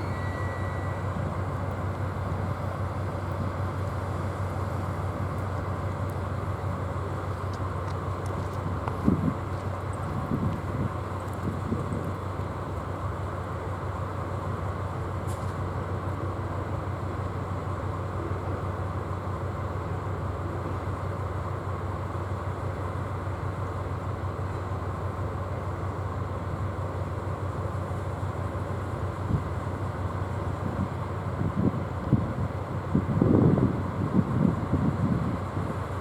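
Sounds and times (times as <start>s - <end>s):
locomotive engine droning: 0.0s - 36.0s.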